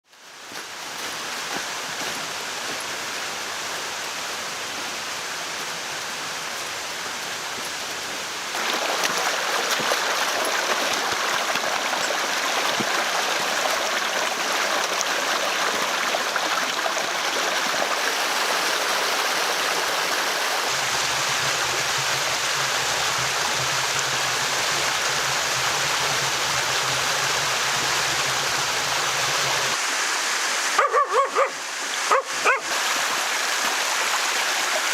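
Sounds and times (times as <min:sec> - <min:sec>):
stream water rushing: 0:00.1 - 0:34.9.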